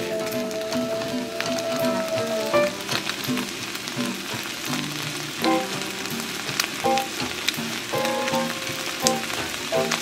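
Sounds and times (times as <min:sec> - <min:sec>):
bread frying with sizzling hiss: 0:00.0 - 0:10.0.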